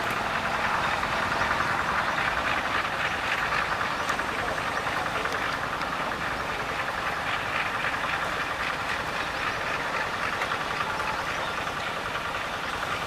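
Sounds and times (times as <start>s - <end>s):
diesel locomotive running: 0.0s - 13.0s
wheels rolling slowly over rails: 0.0s - 13.0s.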